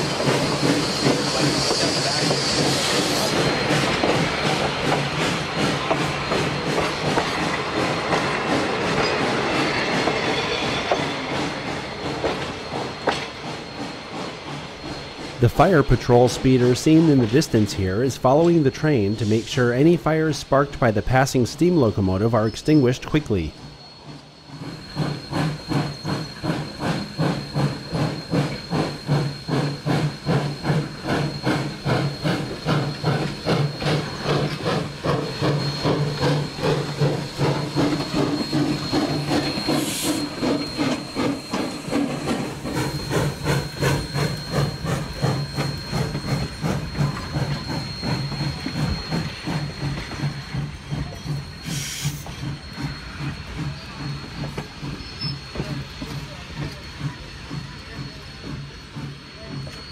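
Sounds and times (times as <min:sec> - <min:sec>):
steam hissing: 0:00.0 - 0:59.9
steam locomotive exhaust chuffs: 0:00.0 - 0:59.9.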